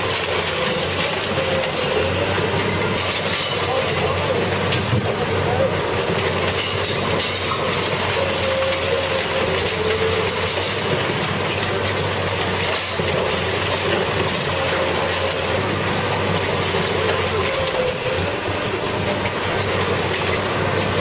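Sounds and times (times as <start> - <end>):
industrial shredder grinding: 0.0 - 21.0.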